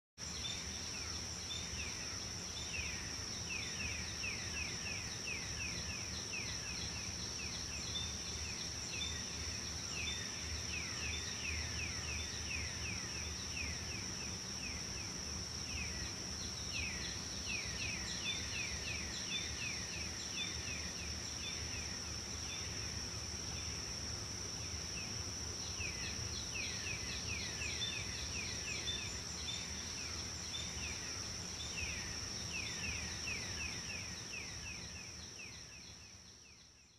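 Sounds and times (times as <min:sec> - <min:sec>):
high insect drone: 0:00.2 - 0:36.9.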